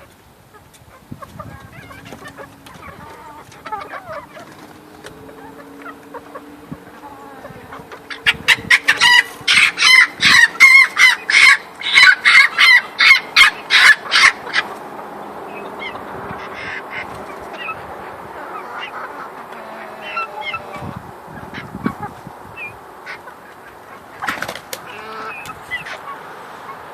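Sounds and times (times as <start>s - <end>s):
fowl calling: 0.0s - 26.9s.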